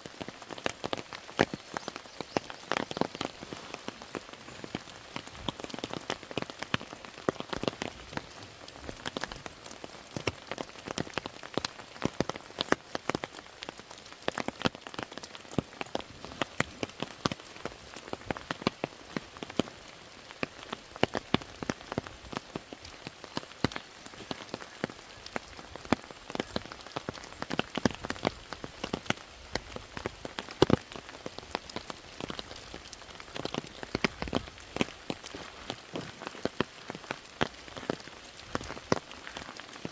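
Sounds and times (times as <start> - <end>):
rain falling: 0.0 - 39.9
raindrops striking close by: 0.0 - 39.9.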